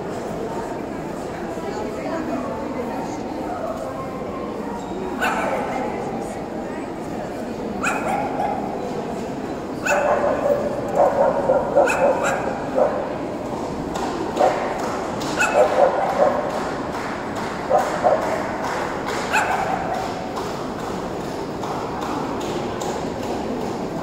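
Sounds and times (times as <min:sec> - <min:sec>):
crowd murmur: 0:00.0 - 0:24.0.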